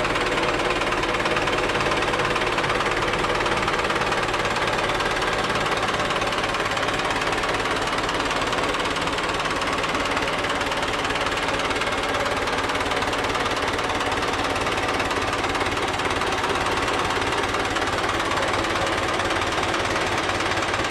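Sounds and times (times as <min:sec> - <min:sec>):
boat engine running: 0:00.0 - 0:20.9.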